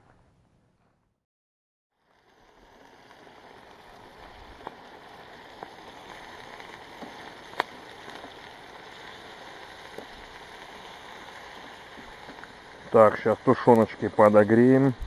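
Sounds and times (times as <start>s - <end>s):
fire crackling and popping: 2.0s - 15.0s.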